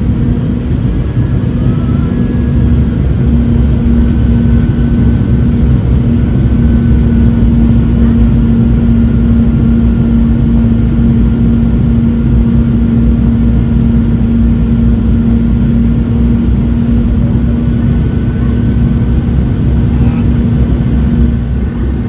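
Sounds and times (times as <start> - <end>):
airplane cabin roar: 0.0 - 22.0.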